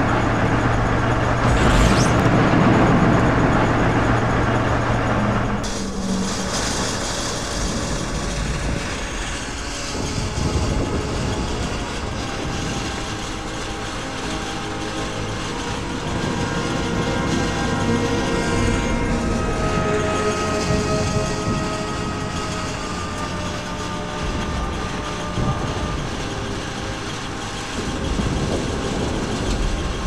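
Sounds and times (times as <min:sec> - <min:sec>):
tank engine running: 0:00.0 - 0:30.0
steel tracks clanking: 0:01.4 - 0:30.0.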